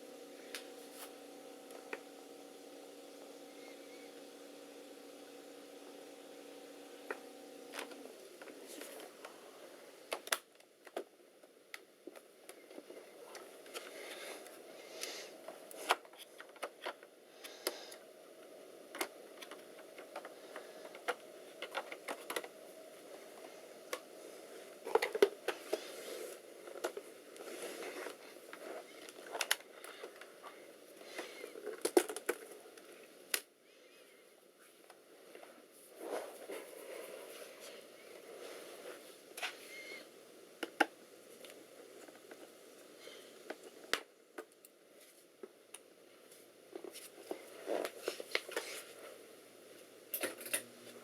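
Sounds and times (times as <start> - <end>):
background hum and hiss: 0.0 - 51.0.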